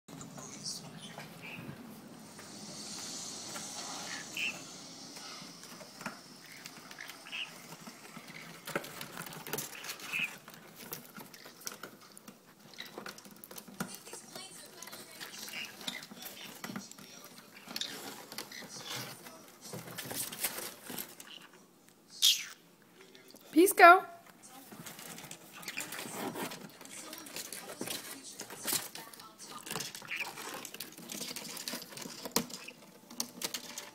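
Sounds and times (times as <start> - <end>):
birds scratching on cardboard: 2.5 - 21.6, 24.5 - 33.9.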